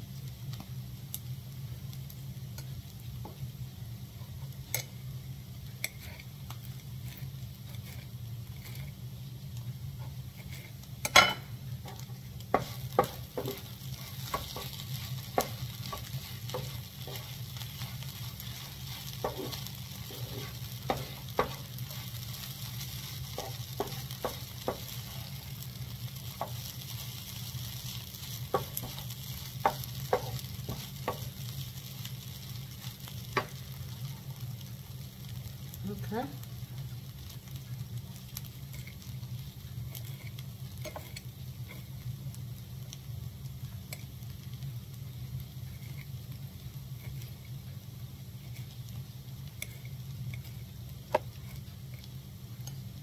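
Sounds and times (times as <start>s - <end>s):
food sizzling in a skillet: 0.0s - 53.0s.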